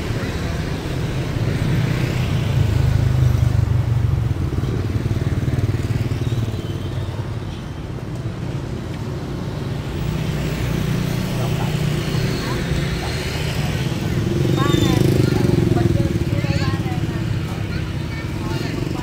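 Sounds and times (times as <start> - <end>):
motorbikes passing: 0.0 - 19.0.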